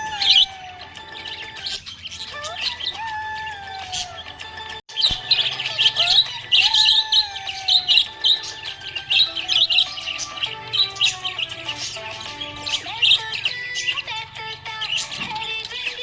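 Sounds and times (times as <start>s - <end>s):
background music with melody: 0.0s - 16.0s
parrots chirping rapidly: 0.0s - 16.0s.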